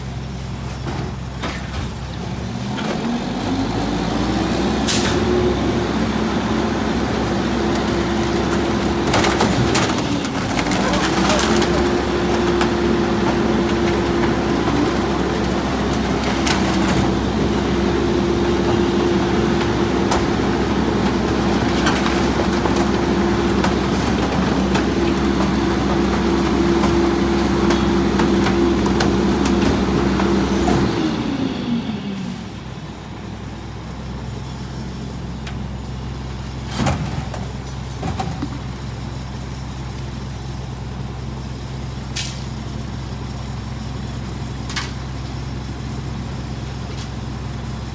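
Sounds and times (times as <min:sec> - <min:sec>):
garbage truck diesel engine: 0:00.0 - 0:47.9.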